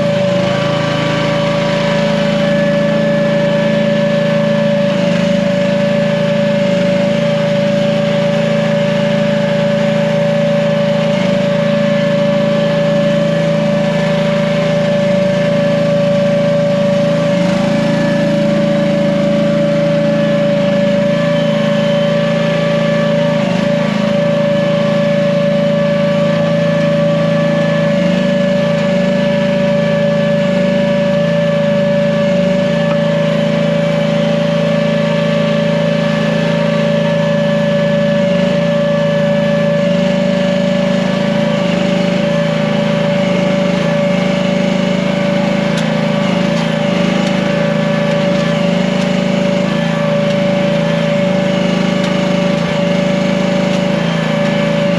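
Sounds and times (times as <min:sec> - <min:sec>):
small gasoline engine running: 0:00.0 - 0:54.9.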